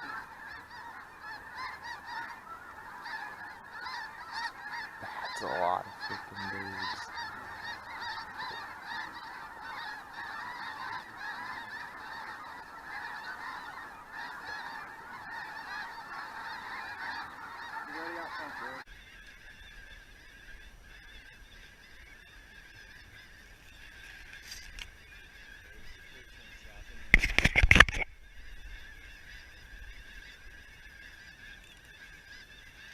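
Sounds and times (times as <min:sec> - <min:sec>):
geese honking: 0:00.0 - 0:32.9.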